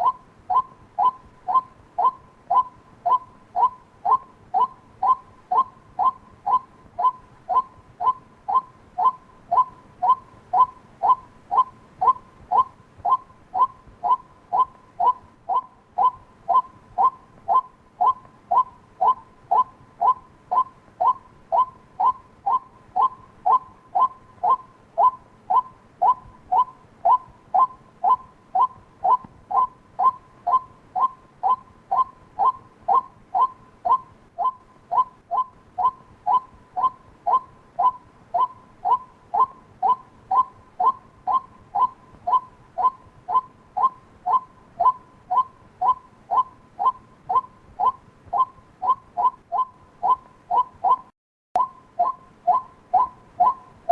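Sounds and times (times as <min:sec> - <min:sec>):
waterhen calling: 0:00.0 - 0:53.9.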